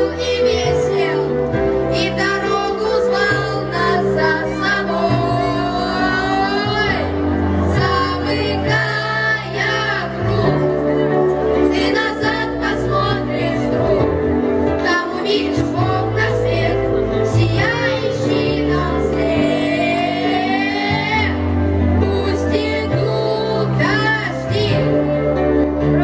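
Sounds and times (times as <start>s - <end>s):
children singing into microphones: 0.0s - 11.0s, 11.7s - 14.2s, 14.8s - 25.1s.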